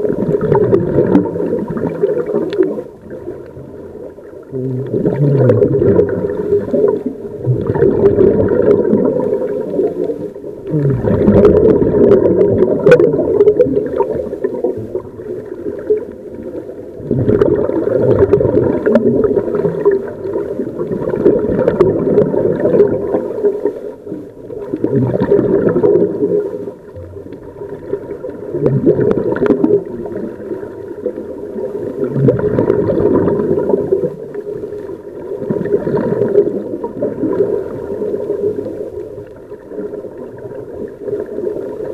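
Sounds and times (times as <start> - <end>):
underwater air bubbling: 0.0 - 41.9.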